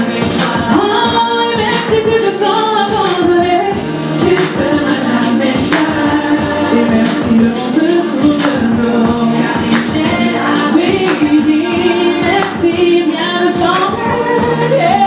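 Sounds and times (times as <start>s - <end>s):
backing music: 0.0s - 15.0s
woman singing into microphone: 0.0s - 15.0s.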